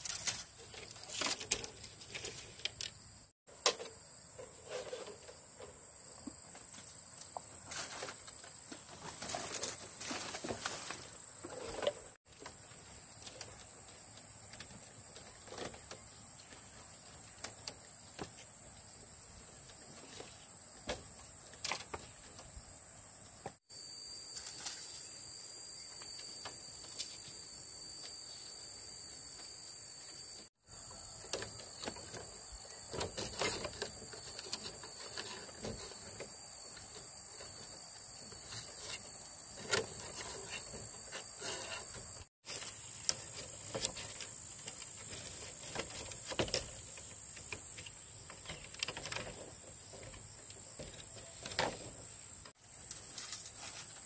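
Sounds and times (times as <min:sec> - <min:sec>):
bamboo poles knocking and scraping: 0:00.0 - 0:22.6, 0:30.7 - 0:54.0
insects droning: 0:00.0 - 0:54.0.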